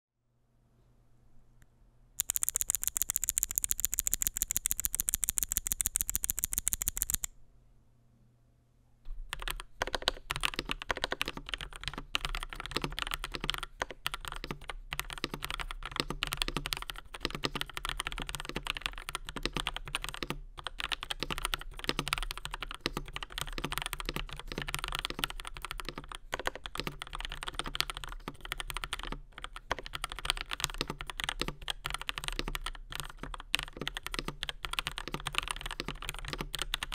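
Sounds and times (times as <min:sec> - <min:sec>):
mechanical keyboard typing: 0:02.2 - 0:07.3, 0:09.3 - 0:36.9
rapid even clicking: 0:02.2 - 0:07.3, 0:09.3 - 0:36.9.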